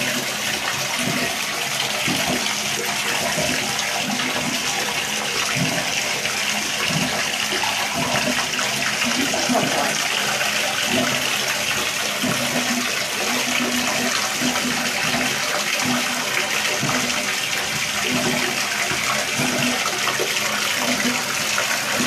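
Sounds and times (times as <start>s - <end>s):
water running into bathtub: 0.0s - 22.0s.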